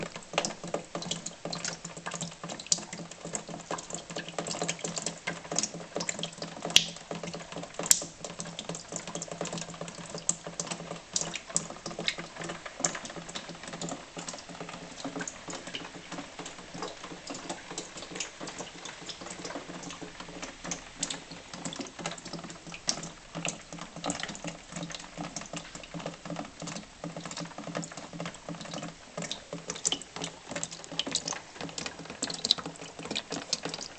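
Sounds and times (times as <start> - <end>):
rain pattering: 0.0 - 33.9.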